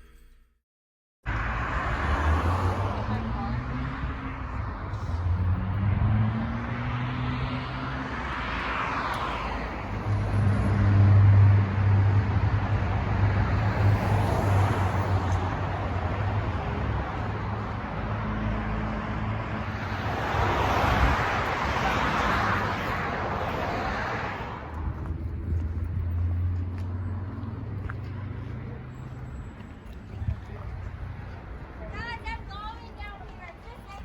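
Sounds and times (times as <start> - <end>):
car engine drone: 1.3 - 31.6.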